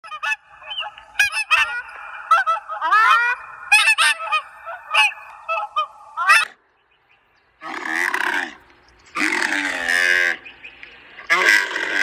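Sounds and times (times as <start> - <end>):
waterfowl honking: 0.0 - 6.6, 7.6 - 12.0.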